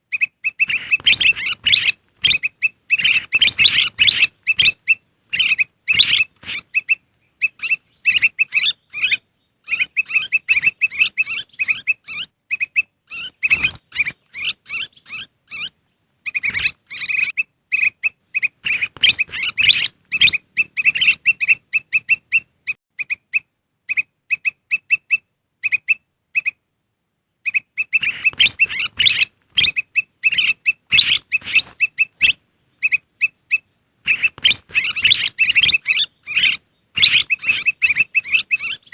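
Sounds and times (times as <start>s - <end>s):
bird chirping chatter: 0.0s - 26.6s, 27.4s - 38.9s.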